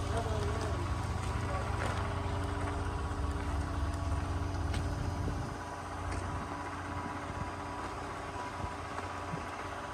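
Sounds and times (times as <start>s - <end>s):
engine rumbling: 0.0s - 9.9s.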